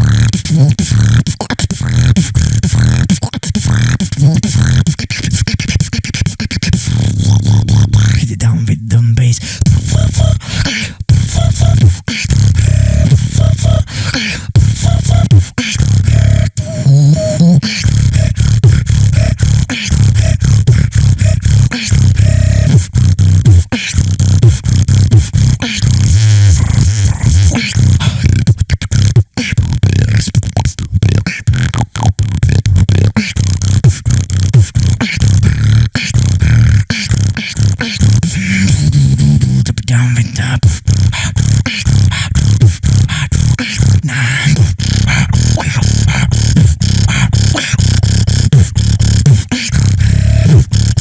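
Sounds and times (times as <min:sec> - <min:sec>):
deep bass: 0:00.0 - 0:05.6, 0:06.6 - 0:51.0
beatboxing: 0:00.0 - 0:51.0.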